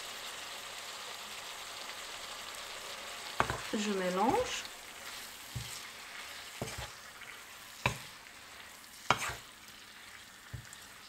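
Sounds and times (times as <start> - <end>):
shrimp and vegetables sizzling: 0.0 - 11.0.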